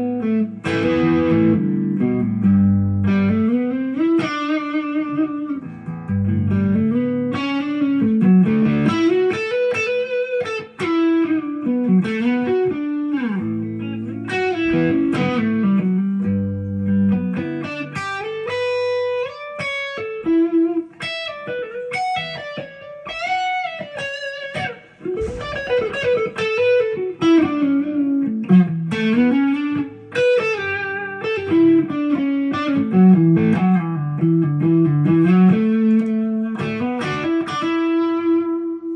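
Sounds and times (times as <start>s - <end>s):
electric guitar lead melody: 0.0s - 38.9s.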